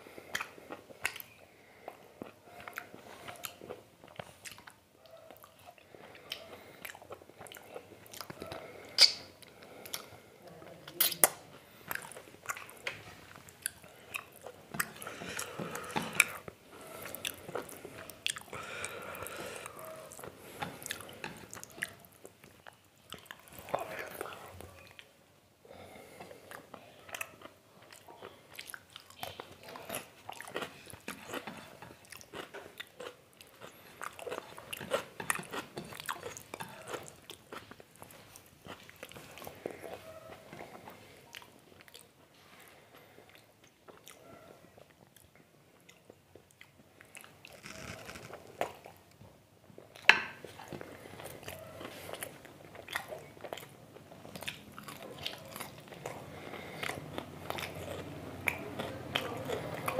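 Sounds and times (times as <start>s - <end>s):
person chewing and mouth smacking: 0.1s - 59.9s.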